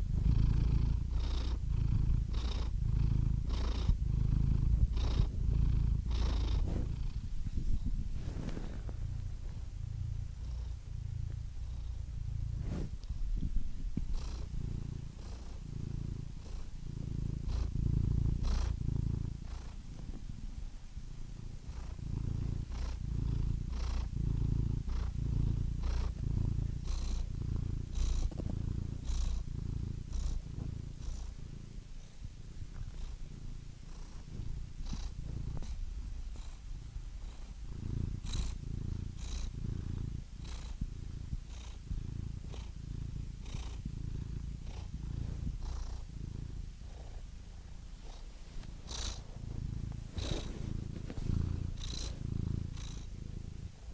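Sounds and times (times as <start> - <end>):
cat purring: 0.0 - 53.9.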